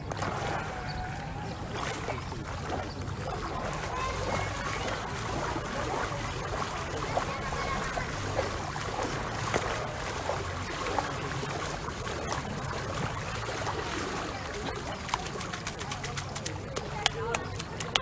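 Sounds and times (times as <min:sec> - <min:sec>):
faint voices: 0:00.0 - 0:18.0
sharp splashes: 0:00.0 - 0:18.0
water lapping and splashing: 0:00.0 - 0:18.0.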